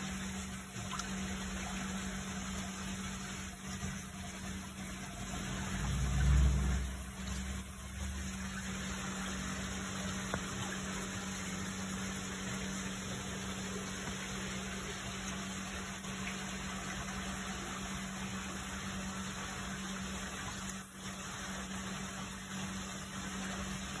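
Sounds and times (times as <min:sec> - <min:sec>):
low pump hum: 0:00.0 - 0:24.0.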